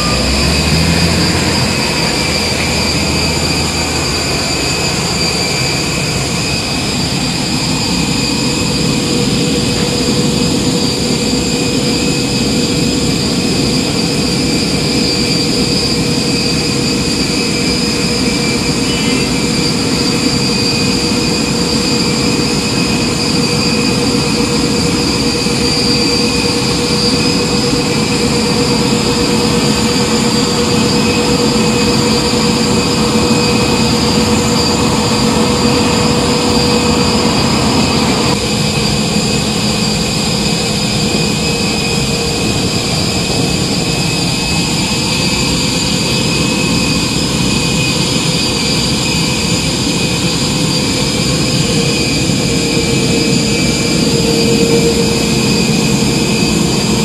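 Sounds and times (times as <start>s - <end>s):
jet engines idling with whine: 0.0s - 57.0s.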